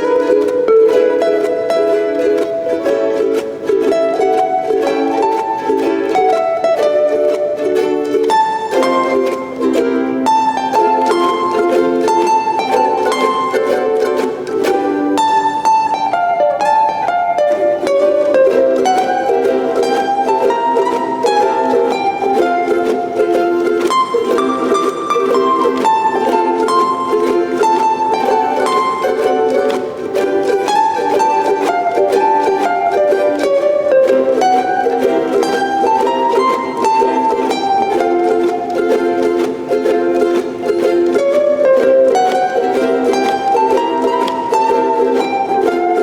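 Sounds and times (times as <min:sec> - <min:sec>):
ukulele ensemble playing: 0:00.0 - 0:46.0.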